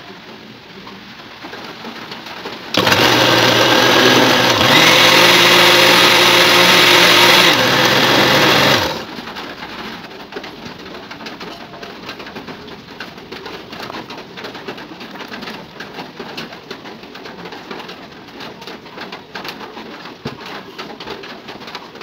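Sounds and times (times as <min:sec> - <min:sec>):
steady crackling noise: 0:00.0 - 0:22.0.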